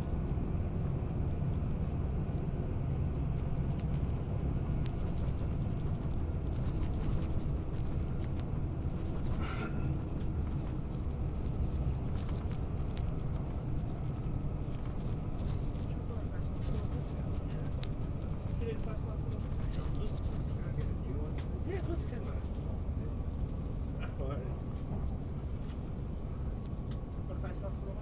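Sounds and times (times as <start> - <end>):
train carriage rumble: 0.0 - 28.0.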